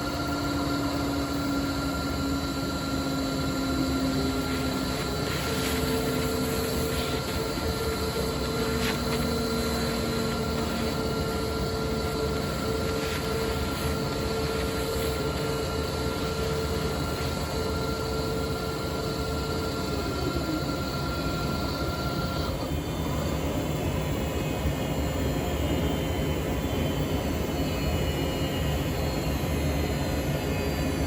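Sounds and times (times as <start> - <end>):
cnc router running: 0.0 - 31.0
spindle whine: 0.0 - 31.0.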